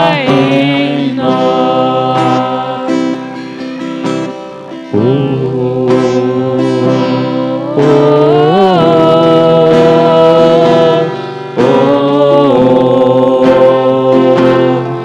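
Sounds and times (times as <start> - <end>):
man singing into a microphone: 0.0 - 3.5, 4.9 - 15.0
strummed acoustic guitar: 0.0 - 15.0.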